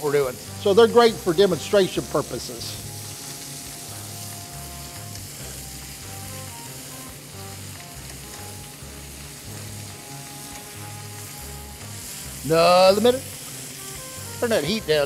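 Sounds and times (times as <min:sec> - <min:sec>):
background music with bass: 0:00.0 - 0:15.0
fish sizzling in a frying pan: 0:00.0 - 0:15.0.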